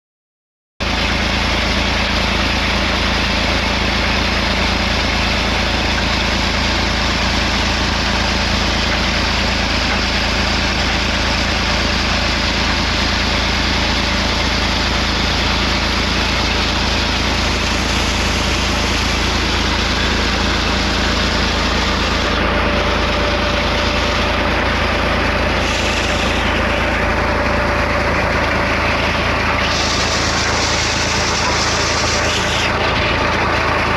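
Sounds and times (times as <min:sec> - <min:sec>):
tractor diesel engine running: 0:00.8 - 0:33.9.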